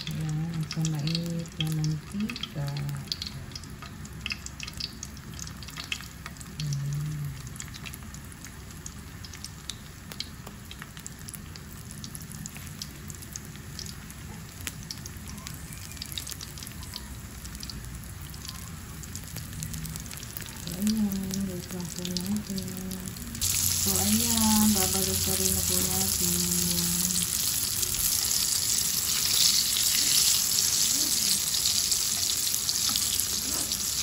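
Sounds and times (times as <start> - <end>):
spring rolls sizzling in hot oil: 0.0 - 34.0.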